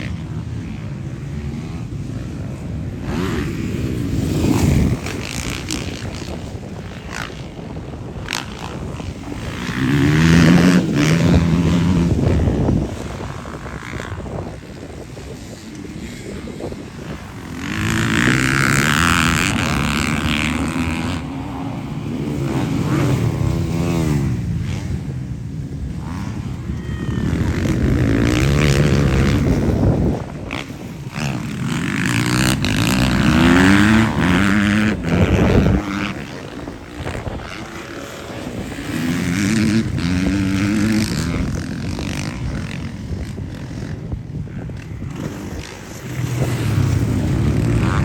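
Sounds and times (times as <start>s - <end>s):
motocross engines revving: 0.0s - 48.0s.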